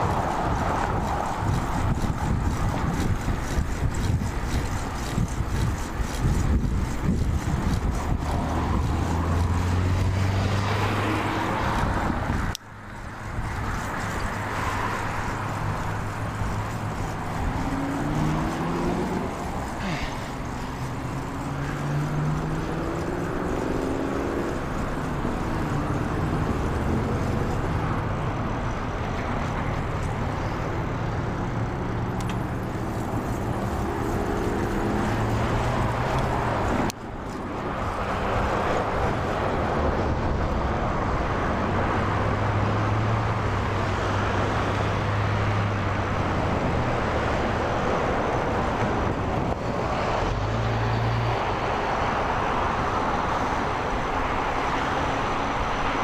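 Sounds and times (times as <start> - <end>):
bicycle road noise: 0.0 - 56.0
passing car engines: 0.0 - 56.0
wind noise: 0.0 - 56.0.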